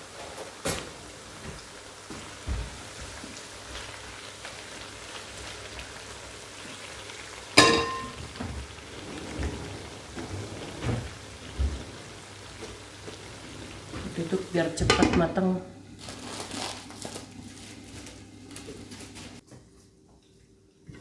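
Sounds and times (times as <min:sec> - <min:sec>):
food sizzling in oil: 0:00.0 - 0:10.2, 0:10.8 - 0:19.4.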